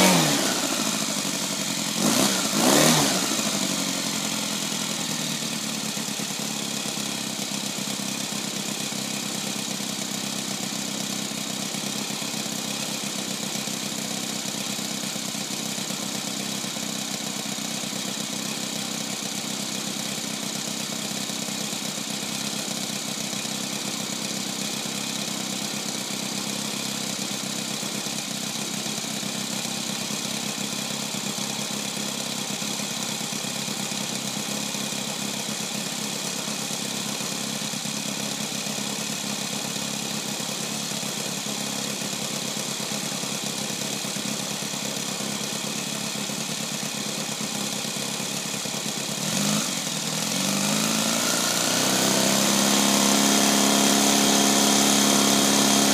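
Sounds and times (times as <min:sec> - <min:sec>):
model aircraft engine idling: 0:00.0 - 0:55.9.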